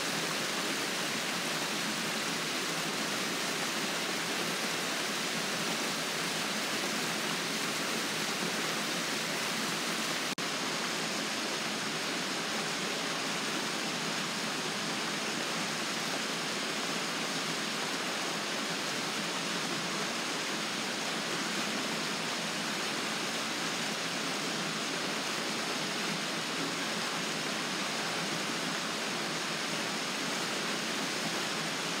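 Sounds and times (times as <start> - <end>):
water rushing down a spillway: 0.0 - 32.0.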